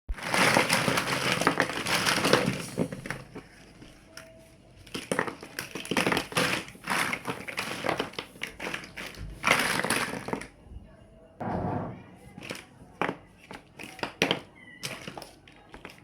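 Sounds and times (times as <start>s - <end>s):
plastic blocks clattering: 0.2s - 10.6s, 12.4s - 16.0s.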